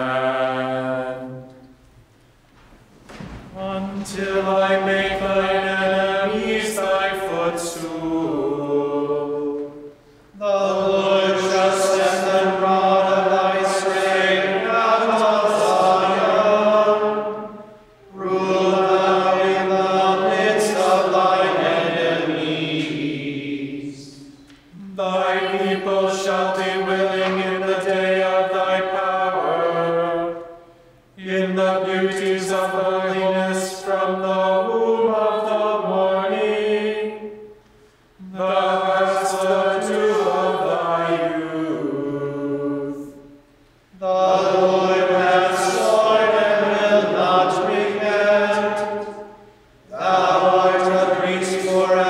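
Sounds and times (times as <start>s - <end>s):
voices chanting in unison: 3.5s - 37.5s, 38.2s - 43.3s, 44.0s - 52.0s.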